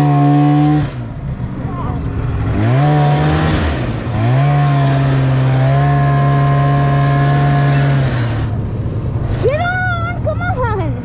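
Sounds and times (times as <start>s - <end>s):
snowmobile engine revving: 0.0s - 10.9s.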